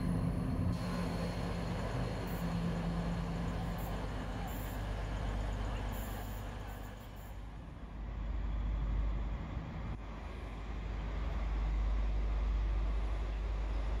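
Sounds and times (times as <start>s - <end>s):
diesel train rumbling: 0.0s - 14.0s.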